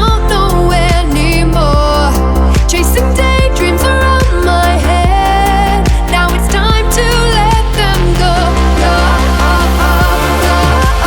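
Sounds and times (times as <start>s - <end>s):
pop song with vocals: 0.0s - 11.0s.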